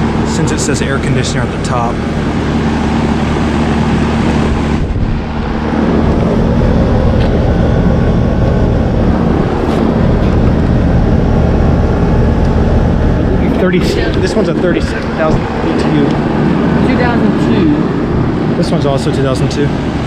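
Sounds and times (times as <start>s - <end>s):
air conditioner fan rush: 0.0s - 20.0s
compressor hum: 0.0s - 20.0s.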